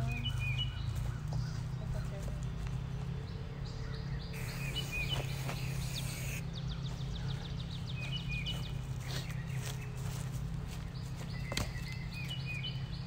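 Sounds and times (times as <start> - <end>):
low background hum: 0.0 - 13.0
songbirds chirping: 0.0 - 13.0.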